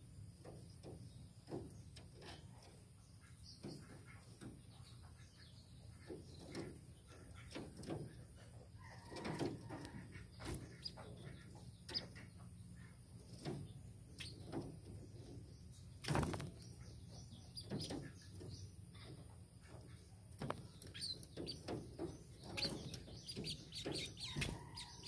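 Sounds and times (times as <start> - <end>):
birds chirping: 0.2 - 25.0.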